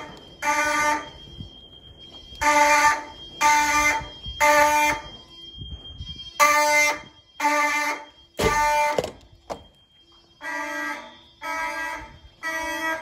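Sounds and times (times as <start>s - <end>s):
fire alarm horns blasting: 0.0s - 13.0s.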